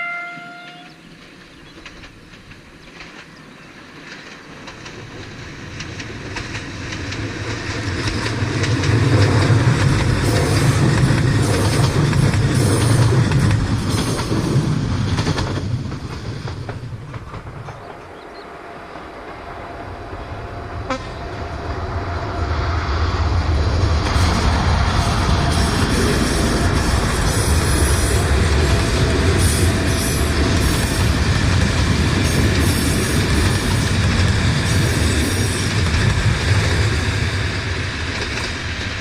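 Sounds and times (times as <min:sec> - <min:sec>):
train rumble and wheel clatter: 0:00.0 - 0:39.0.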